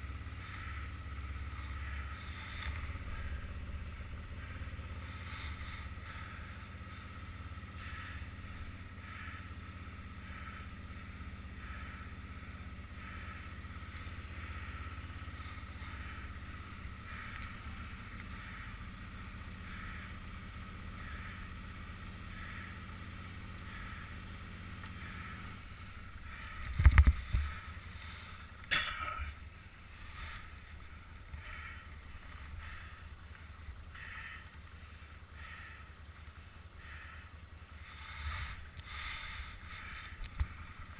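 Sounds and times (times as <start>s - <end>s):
atv engine rumbling: 0.0s - 40.9s.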